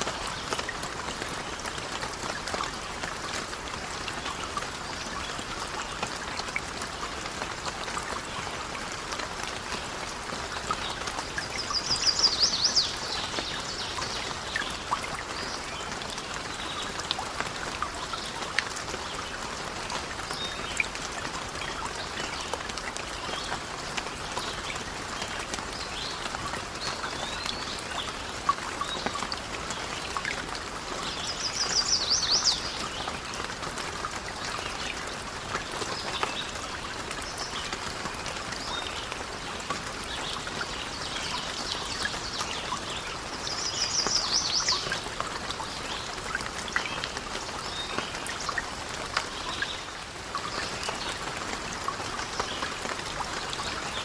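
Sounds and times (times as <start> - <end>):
steady rain with drips: 0.0 - 54.0.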